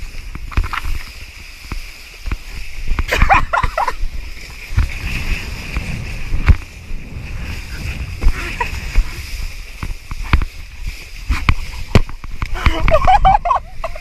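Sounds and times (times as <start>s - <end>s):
board slapping water: 0.0s - 14.0s
rushing water: 0.0s - 14.0s
wind: 0.0s - 14.0s.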